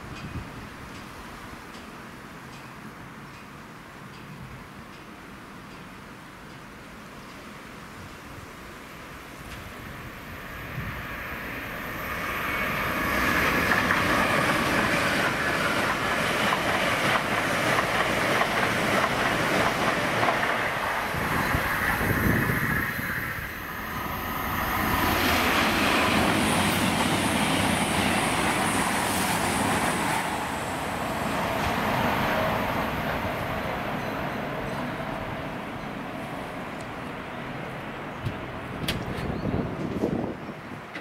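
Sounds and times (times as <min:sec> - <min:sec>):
train passing: 0:00.0 - 0:41.0.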